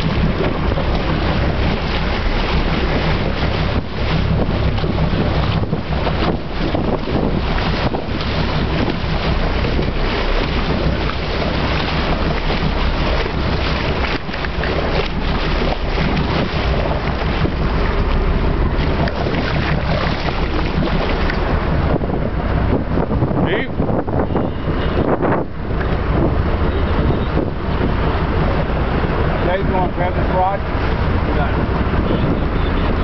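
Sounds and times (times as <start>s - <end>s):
boat engine drone: 0.0s - 33.0s
rushing sea water: 0.0s - 33.0s
wind buffeting microphone: 0.0s - 33.0s.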